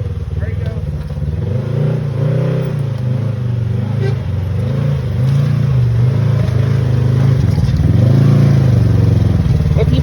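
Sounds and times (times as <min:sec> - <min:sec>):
engine revving under load: 0:00.6 - 0:10.0.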